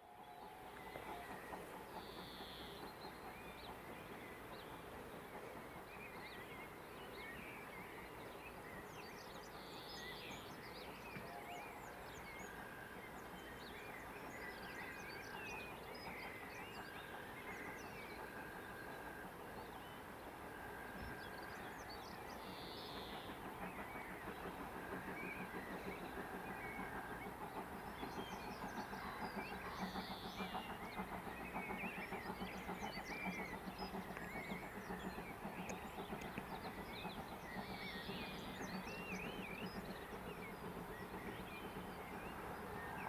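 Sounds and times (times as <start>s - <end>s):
faint outdoor background noise: 0.0s - 43.0s.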